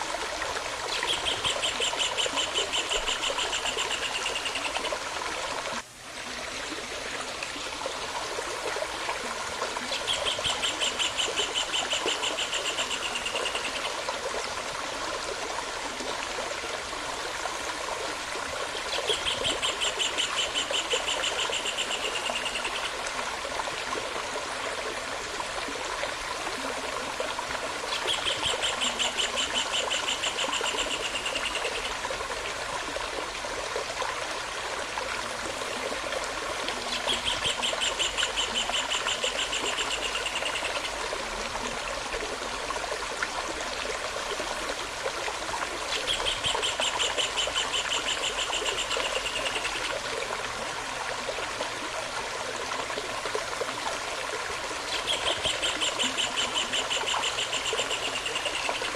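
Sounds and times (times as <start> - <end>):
stream running water: 0.0 - 58.9.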